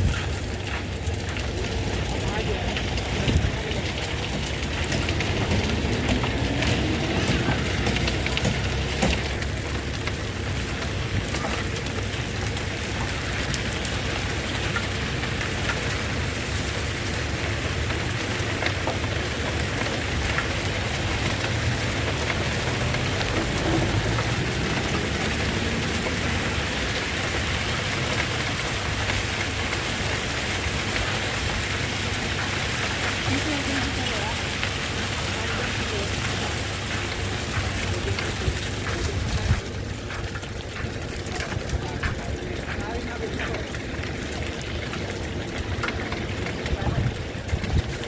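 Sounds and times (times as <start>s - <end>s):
low engine rumble: 0.0s - 48.0s
rain falling: 0.0s - 48.0s.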